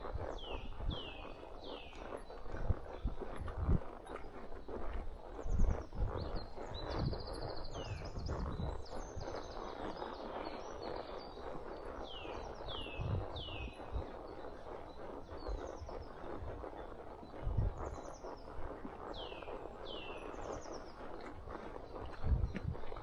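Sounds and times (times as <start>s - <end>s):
horse hooves thudding: 0.0s - 23.0s
birds chirping and trilling: 0.2s - 23.0s.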